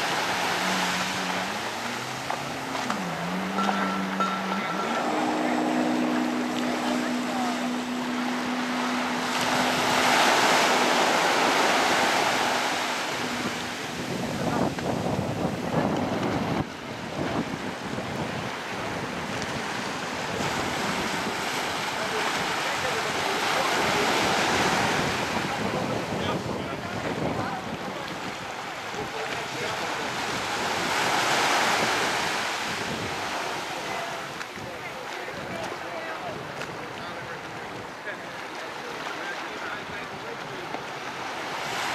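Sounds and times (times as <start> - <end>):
wind on microphone: 0.0 - 38.7
personal watercraft engine hum: 0.0 - 41.9
rush of spray and surf: 0.0 - 41.9.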